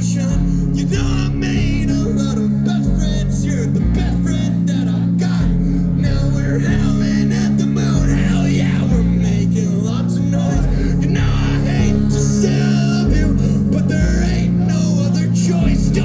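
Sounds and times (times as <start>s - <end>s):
bass notes: 0.0s - 16.0s.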